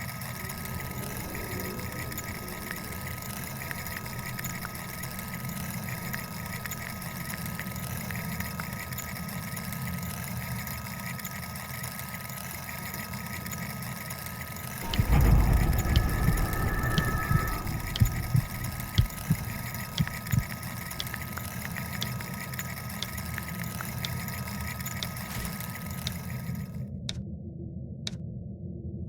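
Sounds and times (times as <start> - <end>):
thin steady whine: 0.0 - 26.8
low mechanical hum: 0.0 - 29.0.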